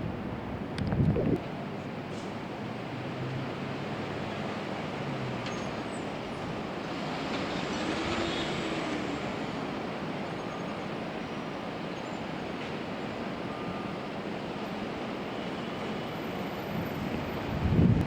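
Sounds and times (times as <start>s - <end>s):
city traffic noise: 0.0s - 18.0s.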